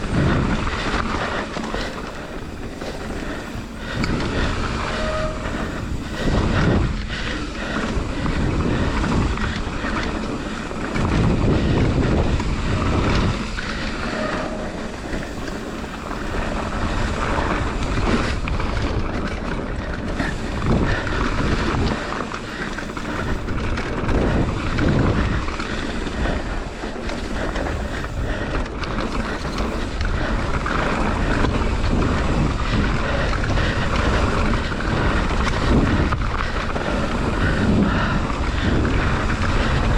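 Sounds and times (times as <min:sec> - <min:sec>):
bike tyres on dirt trail: 0:00.0 - 0:39.9
wind buffeting microphone: 0:00.0 - 0:39.9.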